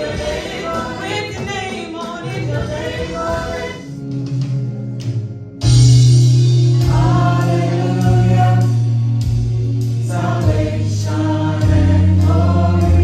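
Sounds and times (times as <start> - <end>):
gospel choir singing: 0.0 - 4.8, 6.5 - 13.0
instrumental accompaniment: 0.0 - 13.0.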